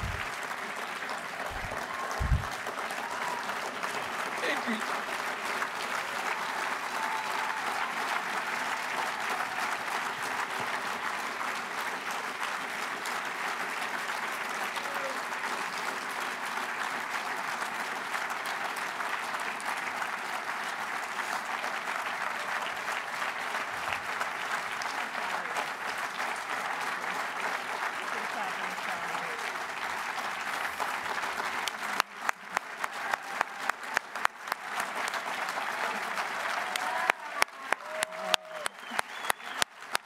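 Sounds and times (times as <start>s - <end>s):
audience applauding: 0.0s - 40.0s.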